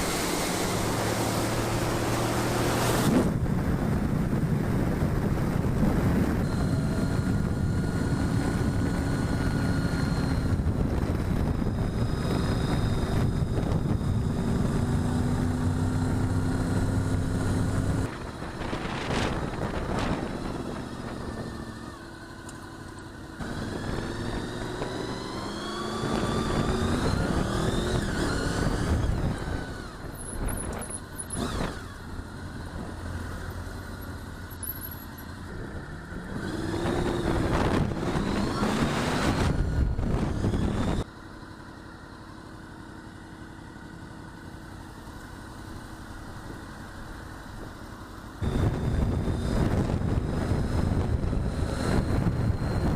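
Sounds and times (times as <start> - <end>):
motorcycle engine accelerating: 0.0 - 52.9
road and wind noise: 0.0 - 52.9.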